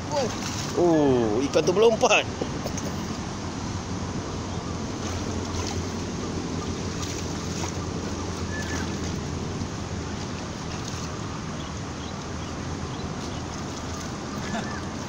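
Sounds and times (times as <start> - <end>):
people wading splashes: 0.0 - 15.0
river water rushing: 0.0 - 15.0.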